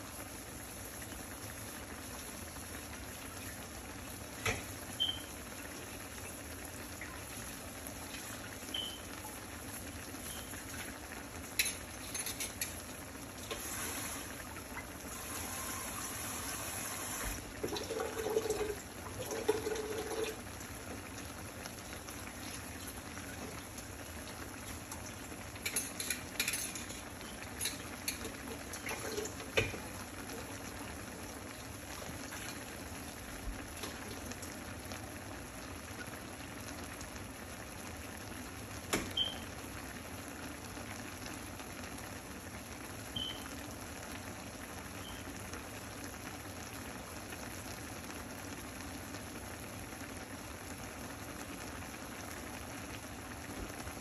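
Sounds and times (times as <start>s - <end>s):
food bubbling and sizzling in skillet: 0.0s - 54.0s.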